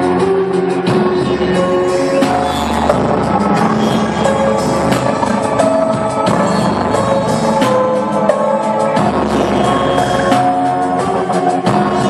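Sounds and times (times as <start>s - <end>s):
loud music through car speakers: 0.0s - 12.0s.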